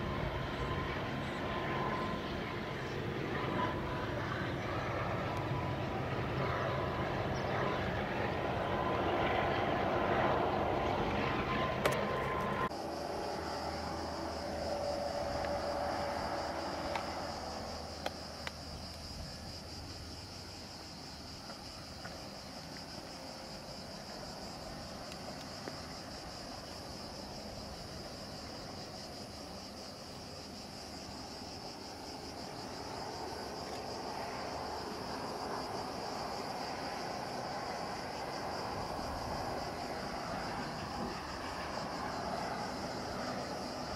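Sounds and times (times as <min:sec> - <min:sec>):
cicadas chorus: 0:00.0 - 0:43.9
distant freight train rumble: 0:00.0 - 0:43.9.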